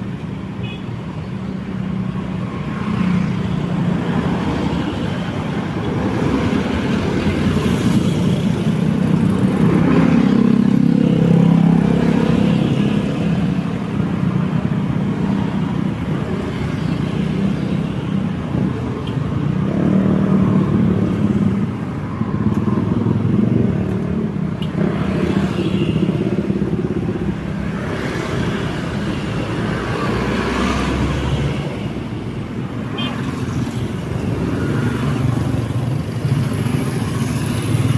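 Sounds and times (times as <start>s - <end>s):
road traffic passing: 0.0s - 37.9s.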